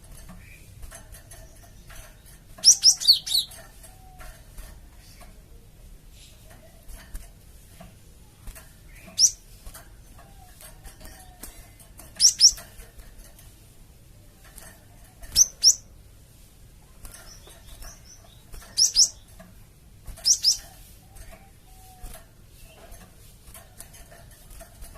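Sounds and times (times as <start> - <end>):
faint background chirping: 0.0 - 13.4, 14.1 - 24.9.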